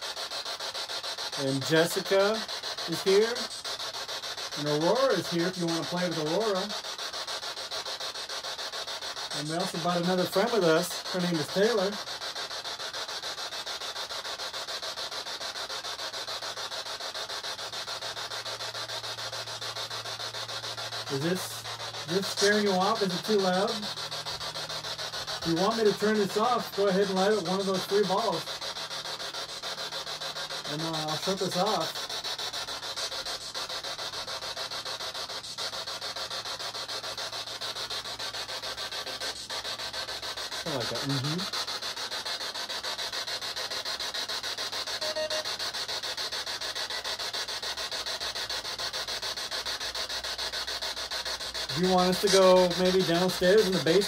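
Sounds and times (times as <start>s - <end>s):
pulsing static hiss: 0.0s - 54.0s.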